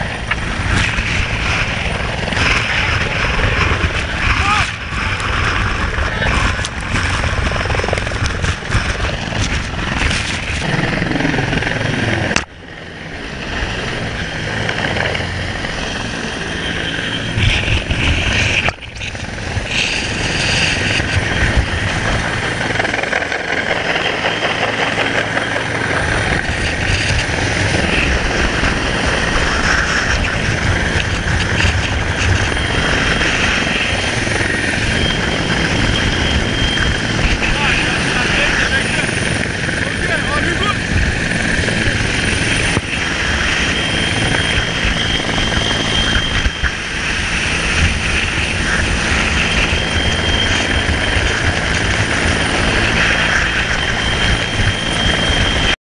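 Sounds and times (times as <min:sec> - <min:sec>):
helicopter rotor noise: 0:00.0 - 0:55.8
rush of rotor downwash: 0:00.0 - 0:55.8
wind buffeting microphone: 0:00.0 - 0:55.8.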